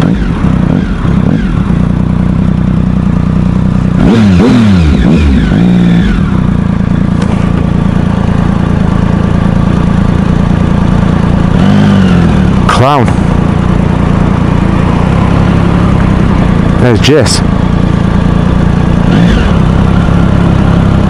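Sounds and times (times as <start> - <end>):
motorcycle engine revving down and idling: 0.0 - 21.0.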